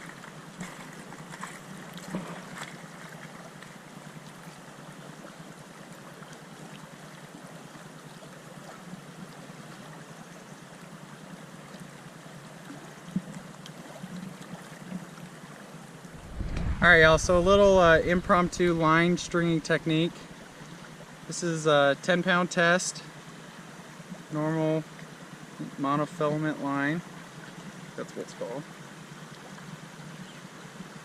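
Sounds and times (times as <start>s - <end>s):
river water running: 0.0s - 31.0s.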